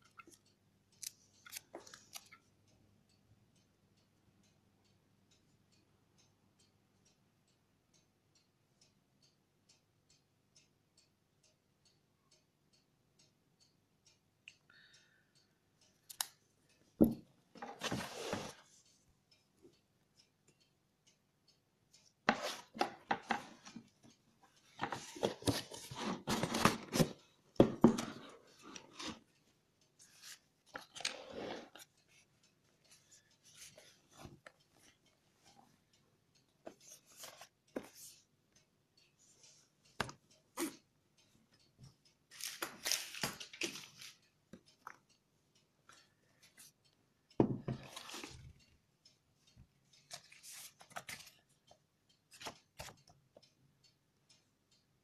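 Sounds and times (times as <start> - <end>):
faint regular ticking: 0.0 - 17.7, 18.6 - 26.1, 27.1 - 55.0.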